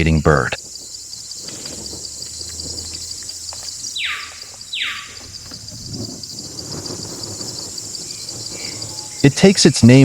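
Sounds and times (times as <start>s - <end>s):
pulsing insect chorus: 0.0s - 10.0s
downward sweeping calls: 1.3s - 10.0s.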